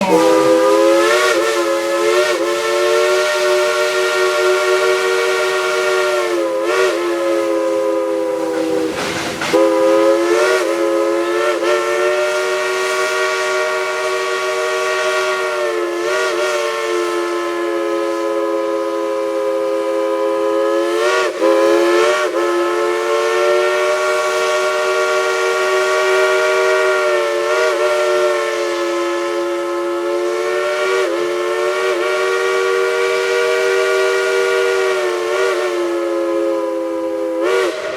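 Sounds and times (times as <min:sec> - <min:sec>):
steam hissing: 0:00.0 - 0:37.9
steam whistle chord: 0:00.0 - 0:37.9.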